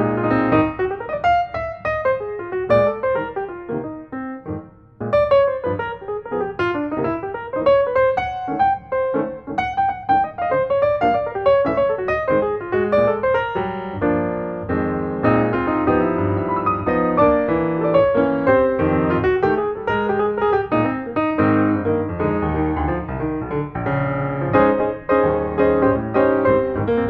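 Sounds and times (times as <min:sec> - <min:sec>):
background piano music: 0:00.0 - 0:27.0.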